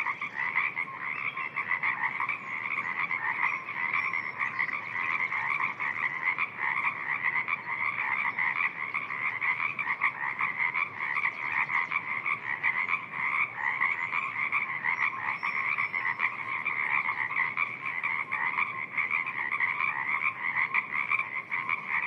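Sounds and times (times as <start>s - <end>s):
frogs croaking: 0.0s - 22.0s.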